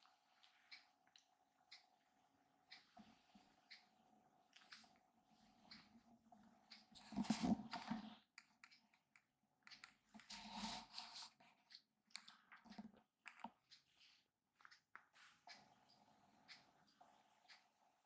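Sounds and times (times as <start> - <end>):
small clicks and taps: 0.4 - 2.0, 2.7 - 6.0, 6.7 - 17.9.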